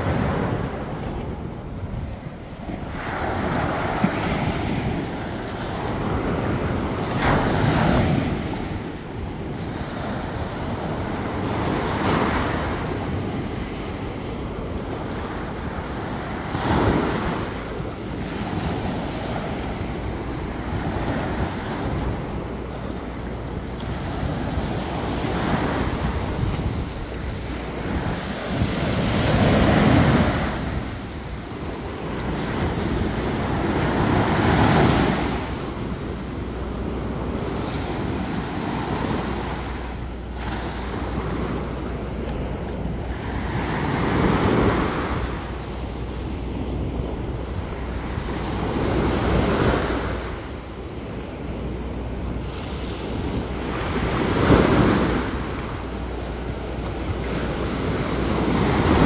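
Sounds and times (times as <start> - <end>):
wind rumble on microphone: 0.0 - 59.0
surf breaking on beach: 2.2 - 59.0.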